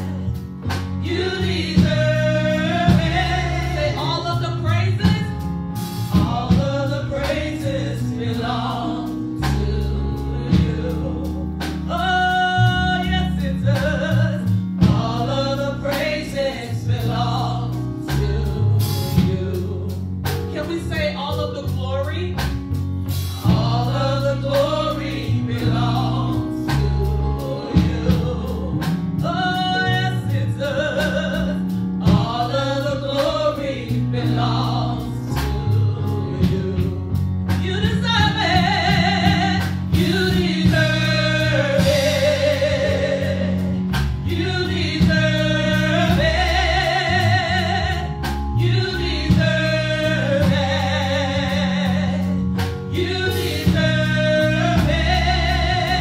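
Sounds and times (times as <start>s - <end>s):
woman singing gospel song: 0.0s - 22.6s, 23.3s - 56.0s
instrumental accompaniment: 0.0s - 56.0s.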